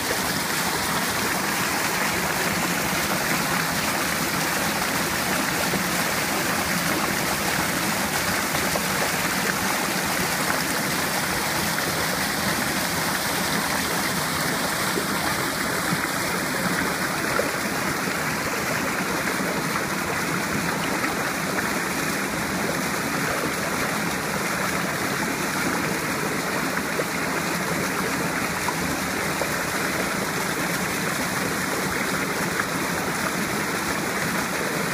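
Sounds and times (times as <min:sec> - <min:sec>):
creek rushing over boulders: 0:00.0 - 0:34.9.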